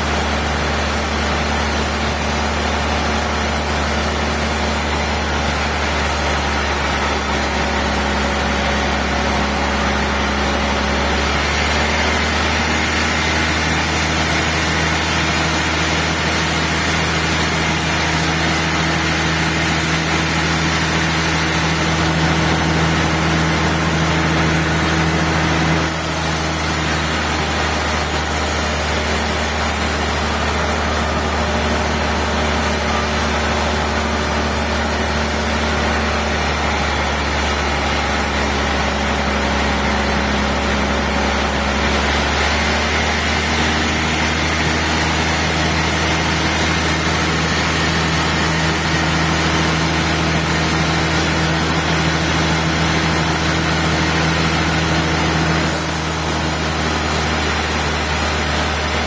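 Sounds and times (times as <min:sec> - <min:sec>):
sawmill machinery hum and hiss: 0:00.0 - 0:59.0.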